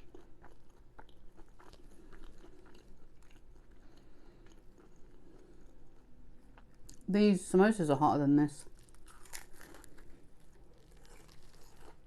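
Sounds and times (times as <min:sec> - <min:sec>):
person chewing food: 0:00.0 - 0:07.1, 0:08.6 - 0:12.0.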